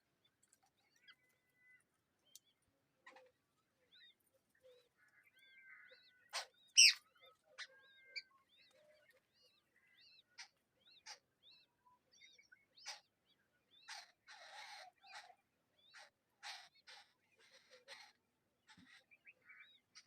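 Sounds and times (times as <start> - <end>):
birds chirping: 0.2 - 20.0.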